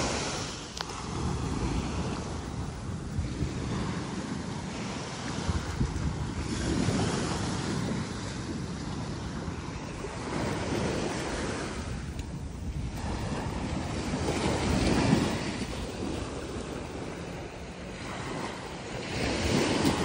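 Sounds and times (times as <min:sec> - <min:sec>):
small waves breaking on sand: 0:00.0 - 0:20.0
wind buffeting the microphone: 0:00.0 - 0:20.0.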